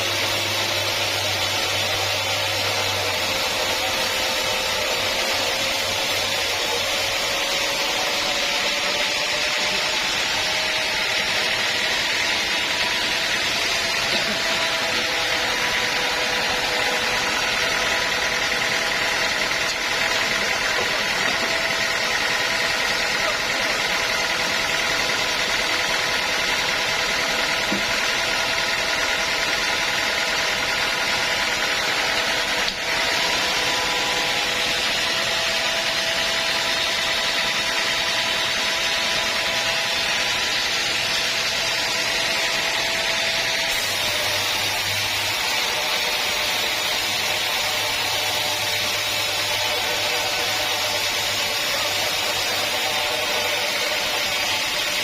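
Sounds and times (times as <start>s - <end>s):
saw cutting log: 0.0s - 55.0s.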